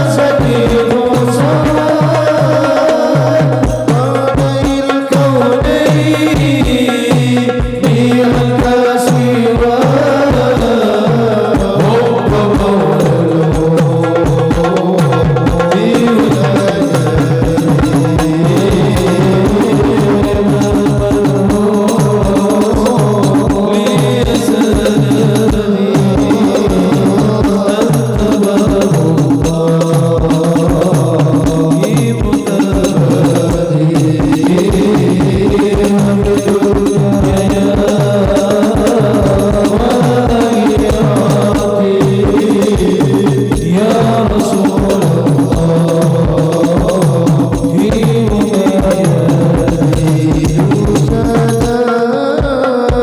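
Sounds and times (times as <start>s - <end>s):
hand percussion beating: 0.0s - 53.0s.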